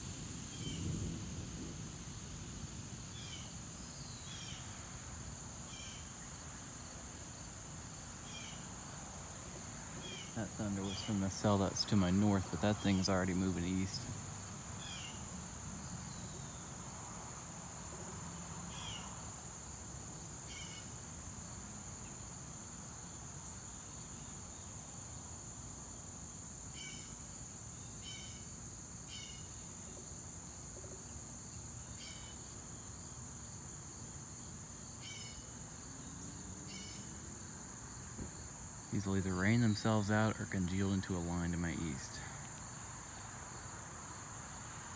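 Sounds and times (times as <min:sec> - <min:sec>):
short insect chirps: 0:00.0 - 0:33.6, 0:34.3 - 0:44.9
insect chorus: 0:00.0 - 0:44.9.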